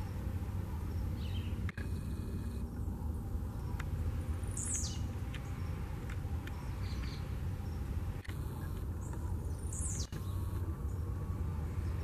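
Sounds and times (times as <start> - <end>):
bird buzzy song: 0.0 - 12.0
steady low rumble: 0.0 - 12.0.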